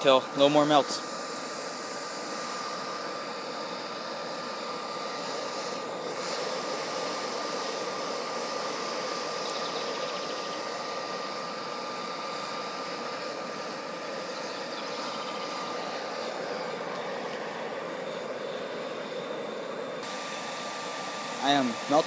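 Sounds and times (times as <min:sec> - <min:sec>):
furnace roaring: 0:00.0 - 0:22.0
thin whine: 0:00.0 - 0:22.0.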